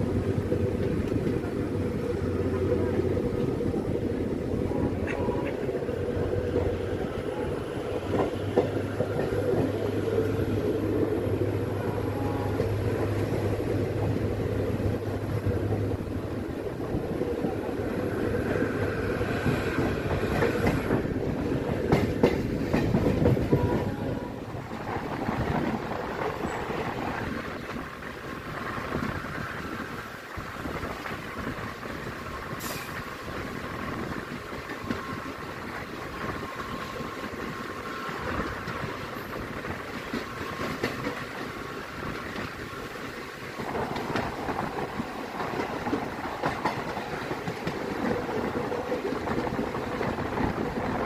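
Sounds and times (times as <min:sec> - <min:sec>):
train wheels clattering on rails: 0:00.0 - 0:51.0.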